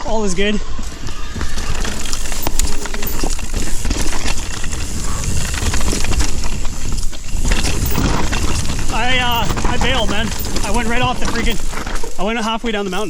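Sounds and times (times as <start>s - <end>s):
rustling on loose ground: 0.0s - 13.0s
knocks and clatter: 0.8s - 13.0s.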